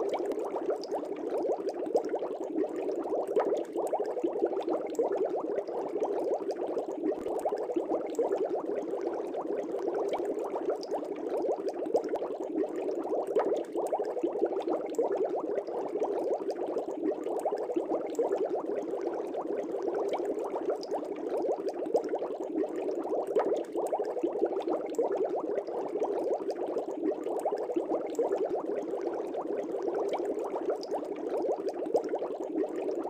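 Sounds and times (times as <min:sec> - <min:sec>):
aquarium air bubbling: 0:00.0 - 0:33.0.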